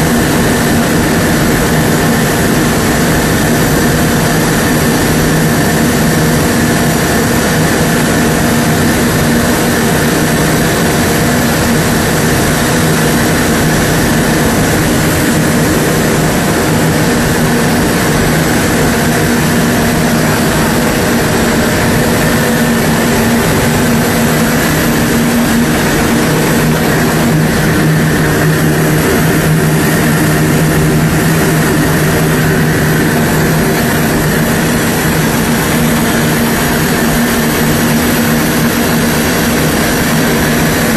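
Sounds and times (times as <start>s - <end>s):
loud machine drone: 0.0s - 40.9s.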